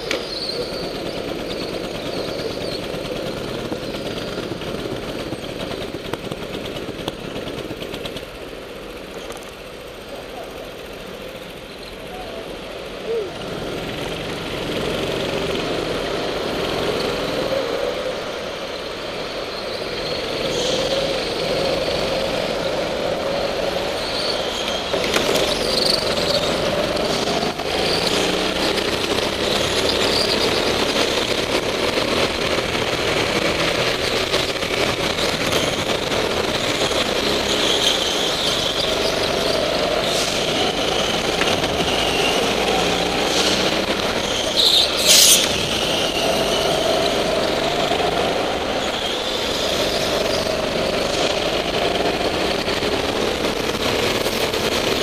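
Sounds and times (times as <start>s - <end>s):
go-kart engine under load: 0.0s - 55.0s
other karts running: 0.0s - 55.0s.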